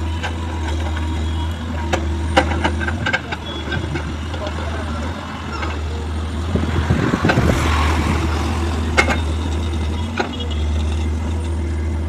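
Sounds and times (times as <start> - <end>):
diesel engine humming: 0.0 - 12.0.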